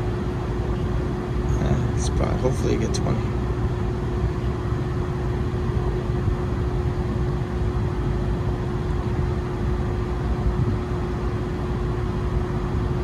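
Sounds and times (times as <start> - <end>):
air conditioning unit droning: 0.0 - 13.0.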